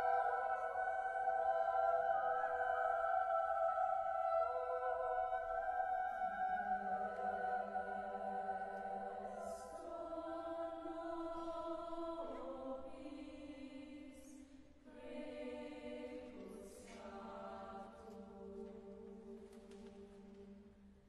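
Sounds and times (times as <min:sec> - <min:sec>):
choir singing a cappella: 0:00.0 - 0:20.8.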